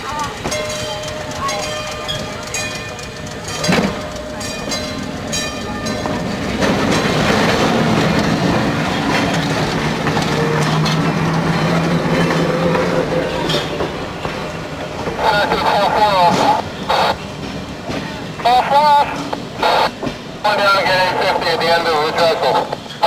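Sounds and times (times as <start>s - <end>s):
trolley wheels rumbling on track: 0.0s - 23.0s.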